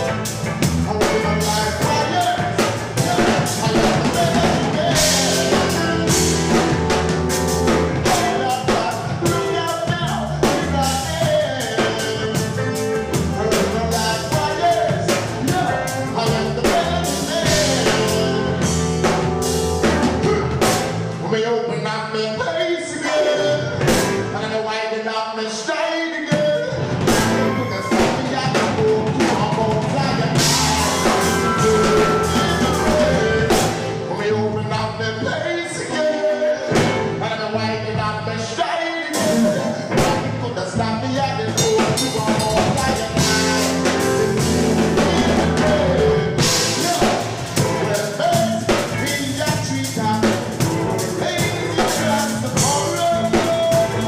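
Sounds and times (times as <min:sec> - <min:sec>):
live rock band with singing: 0:00.0 - 0:54.0.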